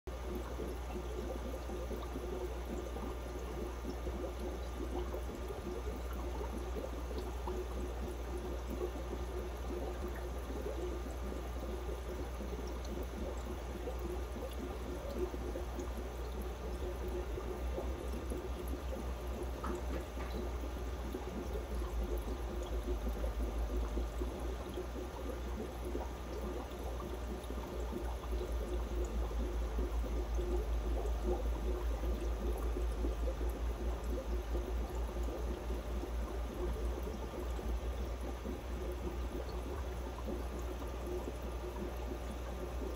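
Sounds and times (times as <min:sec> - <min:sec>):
water trickling and splashing: 0:00.1 - 0:42.9.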